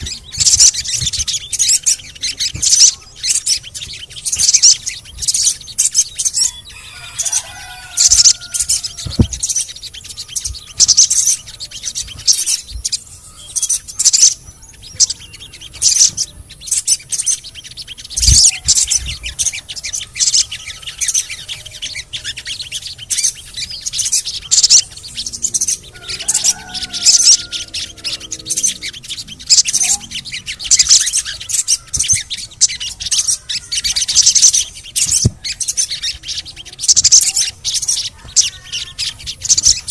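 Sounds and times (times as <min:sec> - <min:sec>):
wavering whistled bird phrases: 0:00.0 - 0:39.9.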